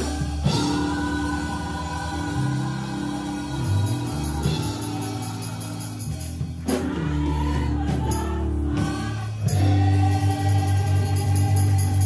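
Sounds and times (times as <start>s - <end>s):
gospel choir singing: 0.0s - 12.0s.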